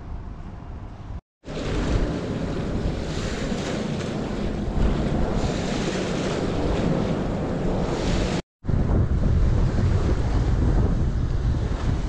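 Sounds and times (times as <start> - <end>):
wind buffeting microphone: 0.0 - 12.0
water rushing over weir: 1.4 - 12.0.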